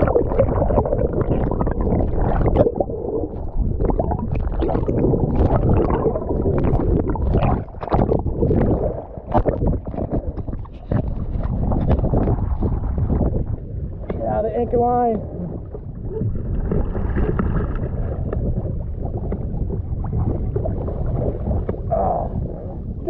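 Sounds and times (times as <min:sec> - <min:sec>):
underwater rumble and gurgling: 0:00.0 - 0:23.0
water sloshing: 0:00.0 - 0:23.0.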